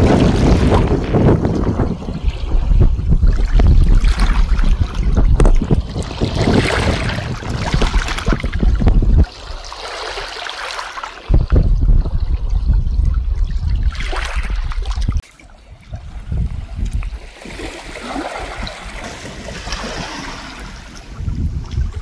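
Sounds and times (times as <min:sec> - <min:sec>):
wind buffeting microphone: 0:00.0 - 0:10.4, 0:11.2 - 0:22.0.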